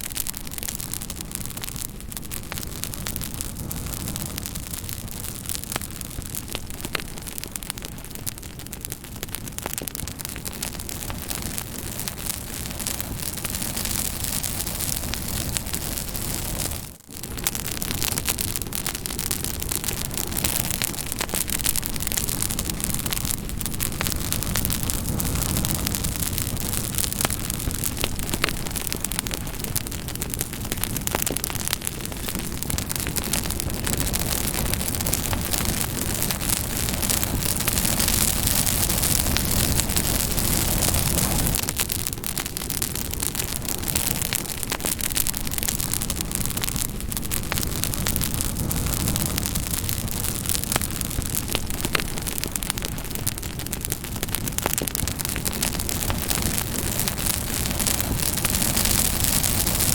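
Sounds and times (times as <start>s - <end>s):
campfire hissing and crackling: 0.0s - 59.9s.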